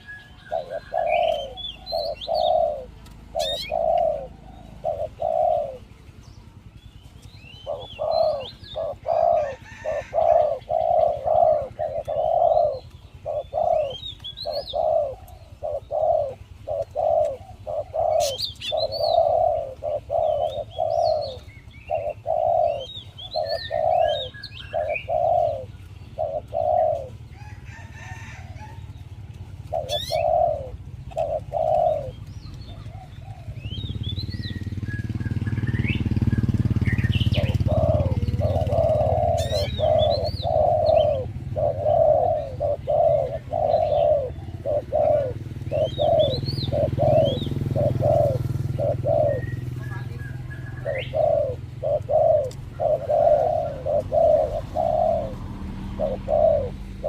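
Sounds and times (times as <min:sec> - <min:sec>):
dove cooing: 0:00.0 - 0:57.0
small birds chirping: 0:00.0 - 0:57.0.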